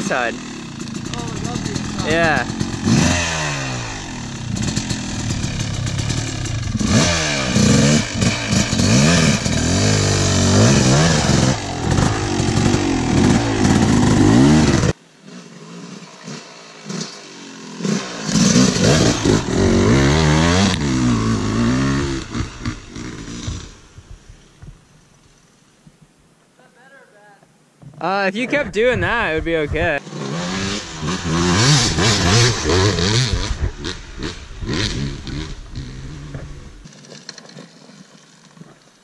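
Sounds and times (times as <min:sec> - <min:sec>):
dirt bike engine revving: 0:00.0 - 0:23.9, 0:29.0 - 0:36.9.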